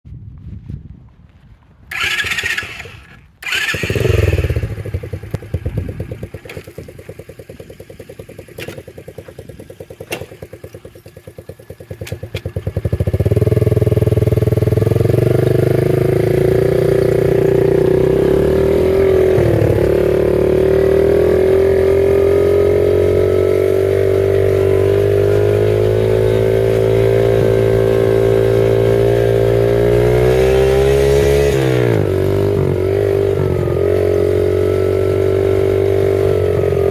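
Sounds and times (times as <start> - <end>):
motorbike engine running: 1.9 - 36.9.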